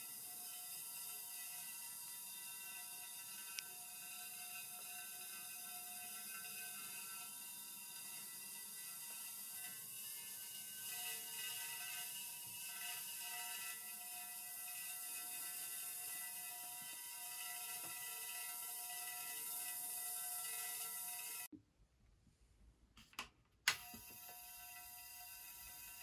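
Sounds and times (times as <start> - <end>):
steady whining tones: 0.0 - 21.5.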